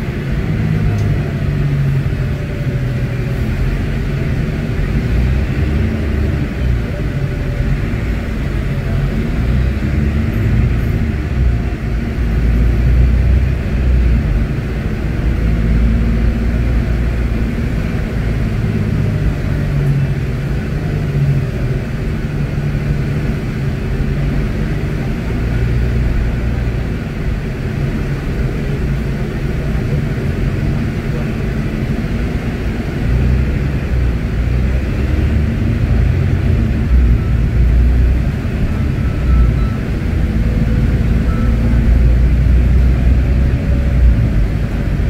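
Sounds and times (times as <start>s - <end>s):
bus engine rumble: 0.0s - 45.0s.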